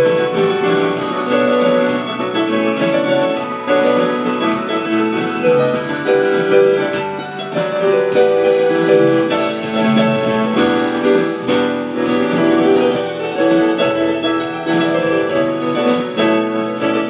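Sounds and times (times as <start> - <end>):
digital piano melody over chords: 0.0 - 17.0.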